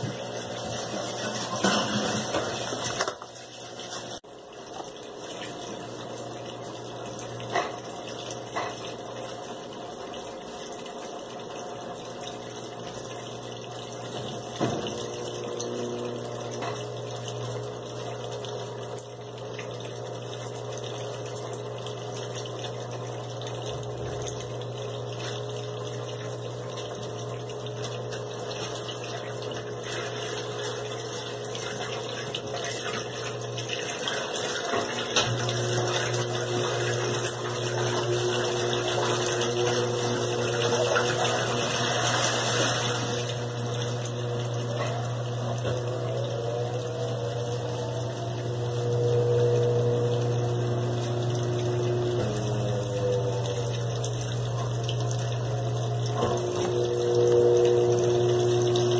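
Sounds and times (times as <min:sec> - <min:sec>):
washing machine basket spinning: 0:00.0 - 0:58.9
washing machine drain pump humming: 0:00.0 - 0:58.9.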